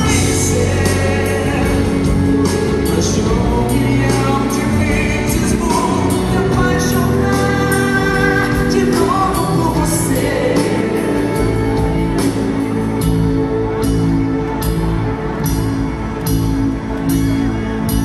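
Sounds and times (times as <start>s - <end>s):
live band with singing: 0.0s - 18.0s.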